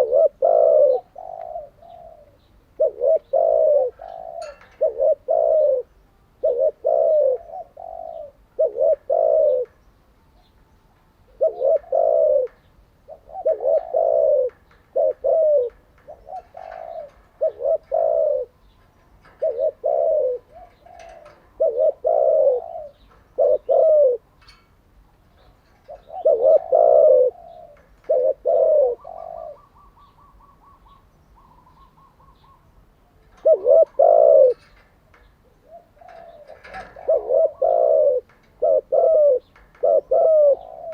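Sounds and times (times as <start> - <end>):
dove cooing: 0.0 - 9.8, 11.3 - 40.9.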